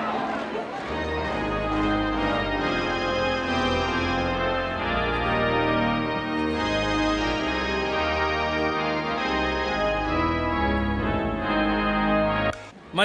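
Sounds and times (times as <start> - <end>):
ballpark organ playing: 0.0 - 13.0.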